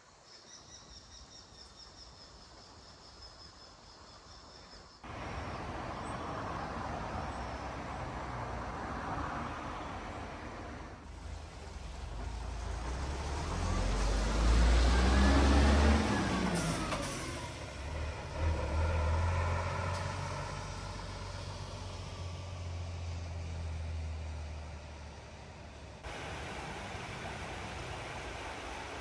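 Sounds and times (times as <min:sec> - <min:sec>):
bus passing and pulling away: 0:05.0 - 0:29.0.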